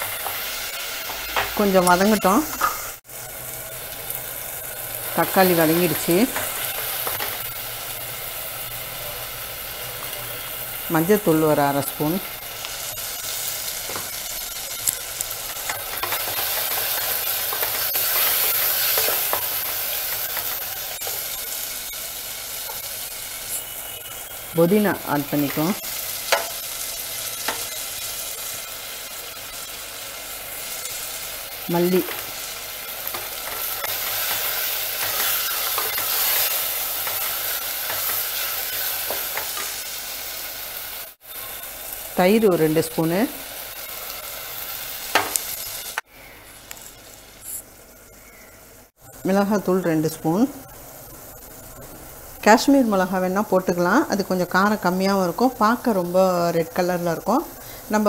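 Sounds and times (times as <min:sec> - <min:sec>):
masala sizzling in hot oil: 0:00.0 - 0:58.0.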